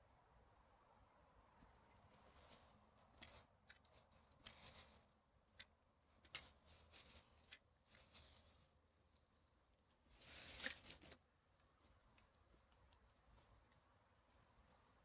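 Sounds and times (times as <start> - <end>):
dry rustling and crinkling: 1.7 - 15.0.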